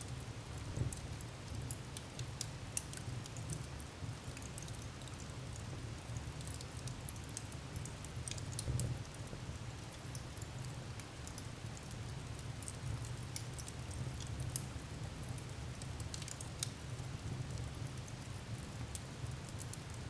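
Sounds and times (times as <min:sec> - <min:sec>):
wood fire crackling and popping: 0:00.1 - 0:20.0.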